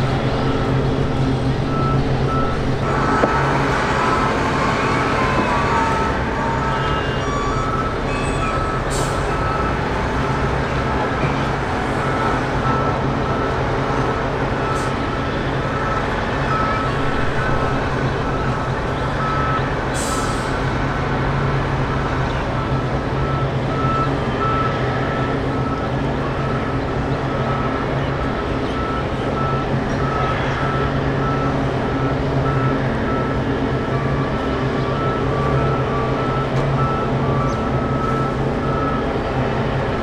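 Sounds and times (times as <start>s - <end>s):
loud engine rumble: 0.0s - 40.0s.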